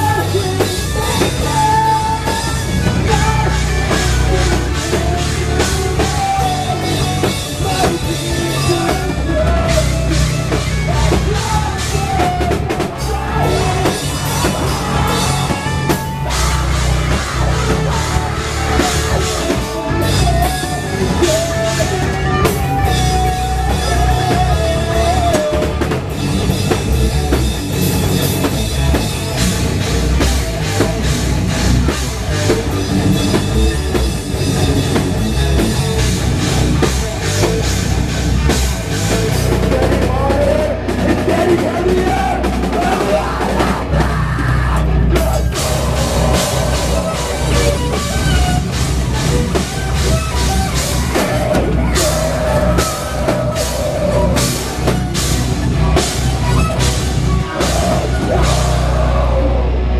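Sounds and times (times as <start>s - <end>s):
drum kit: 0.0s - 59.9s
electric guitars: 0.0s - 59.9s
vocals: 0.0s - 59.9s.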